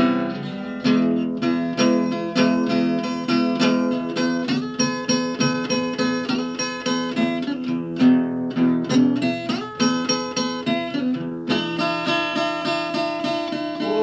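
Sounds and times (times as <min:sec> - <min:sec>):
guitar strumming chords: 0:00.0 - 0:14.0.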